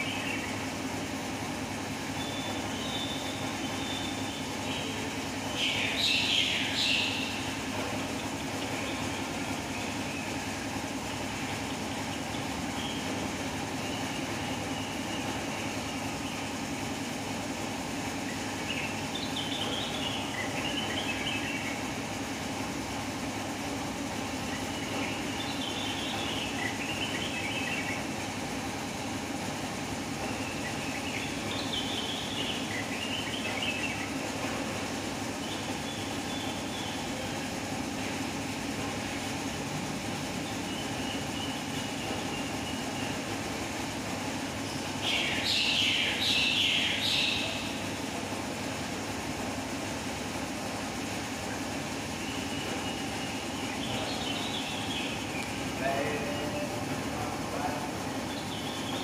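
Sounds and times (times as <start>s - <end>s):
songbird chattering and twittering: 0.0s - 59.0s.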